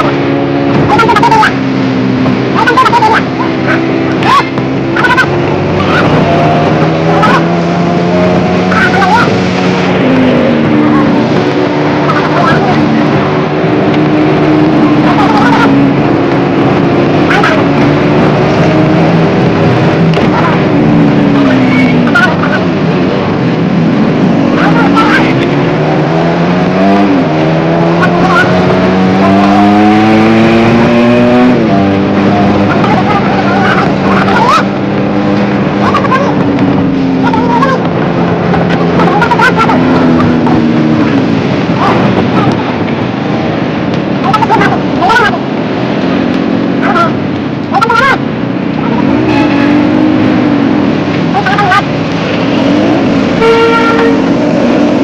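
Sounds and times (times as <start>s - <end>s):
traffic noise: 0.0s - 55.0s
wind rushing: 0.0s - 55.0s.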